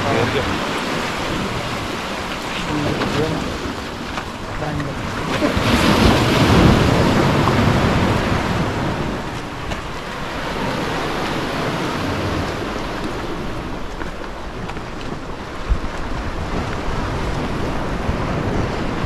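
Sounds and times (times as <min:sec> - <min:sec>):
sea waves washing against rocks: 0:00.0 - 0:19.0
wind buffeting microphone: 0:00.0 - 0:19.0.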